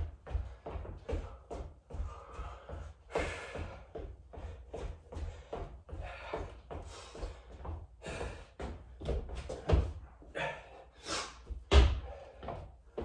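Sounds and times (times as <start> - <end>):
hard breathing: 0.0 - 13.0.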